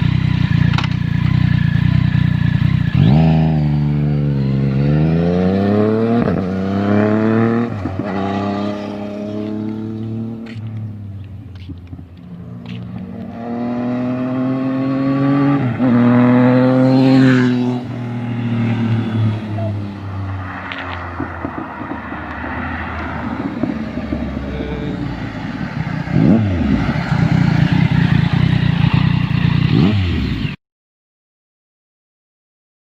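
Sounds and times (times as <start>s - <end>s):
motorcycle engine revving: 0.0s - 30.6s.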